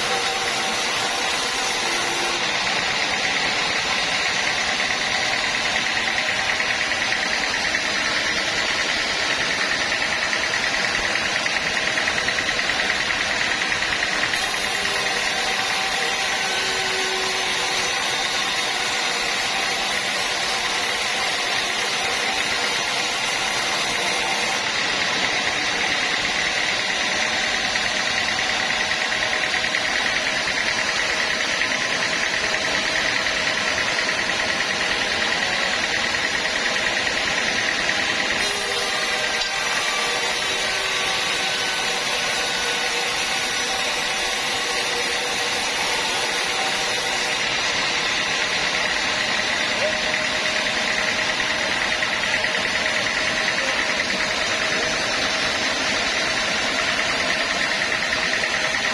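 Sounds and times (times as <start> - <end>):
sawmill machinery droning: 0.0 - 58.9.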